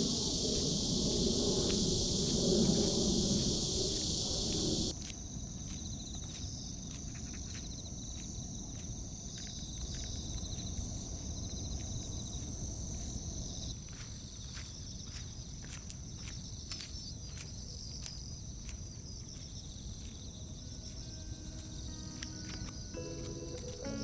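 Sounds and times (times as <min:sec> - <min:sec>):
crickets and insects chirping: 0:00.0 - 0:24.0.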